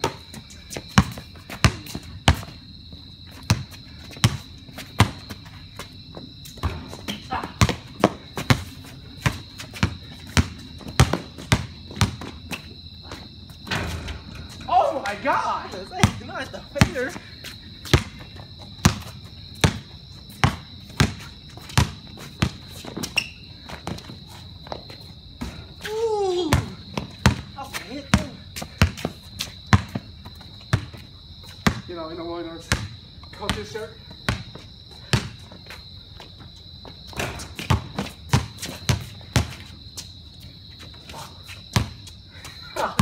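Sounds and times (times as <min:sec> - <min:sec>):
basketball bouncing on concrete: 0:00.0 - 0:02.6, 0:03.4 - 0:05.4, 0:06.1 - 0:12.7, 0:13.5 - 0:25.6, 0:26.4 - 0:32.0, 0:32.6 - 0:35.8, 0:36.4 - 0:40.0, 0:41.7 - 0:42.1.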